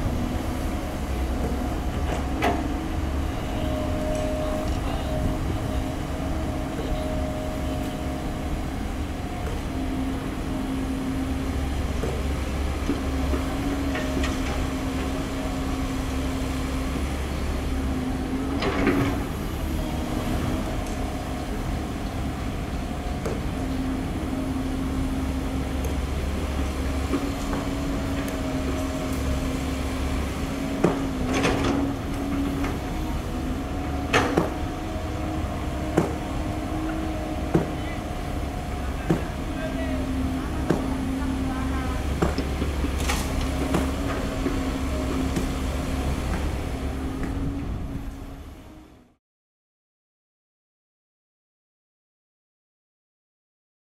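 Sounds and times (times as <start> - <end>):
excavator diesel engine running: 0.0 - 49.2.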